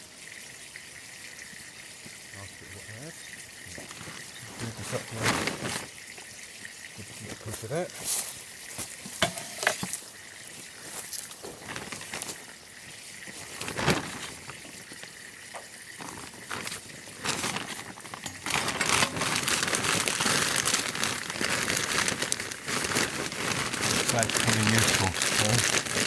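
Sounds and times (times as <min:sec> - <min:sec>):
soil rustling and crackling: 0:02.6 - 0:06.3, 0:07.0 - 0:26.0.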